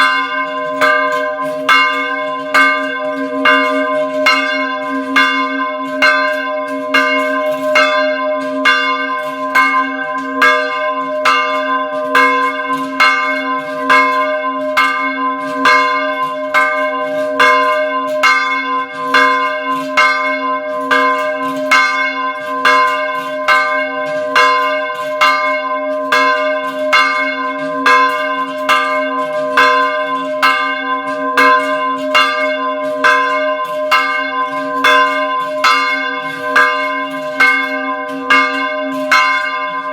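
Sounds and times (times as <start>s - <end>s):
small church bells pealing: 0.0s - 39.9s.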